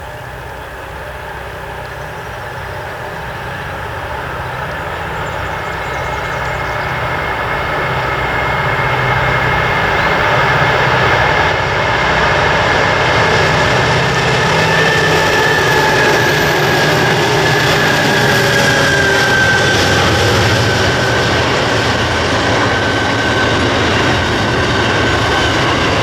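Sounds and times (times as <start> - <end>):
diesel locomotive engine: 0.0 - 26.0.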